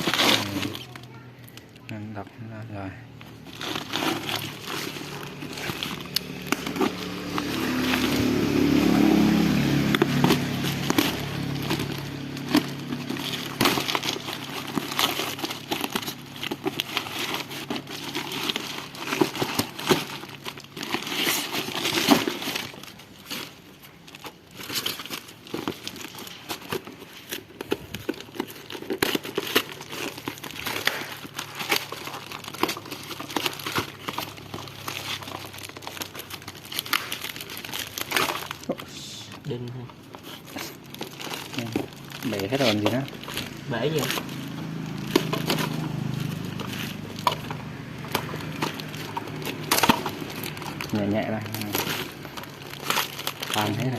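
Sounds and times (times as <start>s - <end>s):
plastic packaging crinkling: 0.0s - 53.9s.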